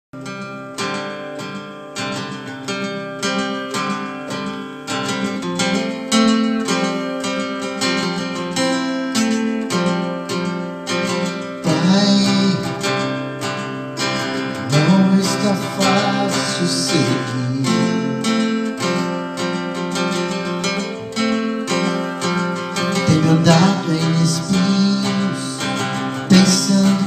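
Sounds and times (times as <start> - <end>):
acoustic guitar strumming: 0.2 - 27.0.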